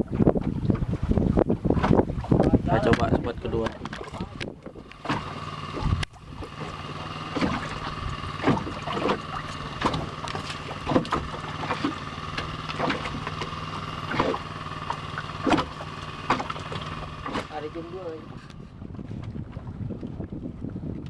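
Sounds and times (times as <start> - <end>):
boat engine running: 0.0 - 21.0
waves slapping against hull: 0.0 - 21.0.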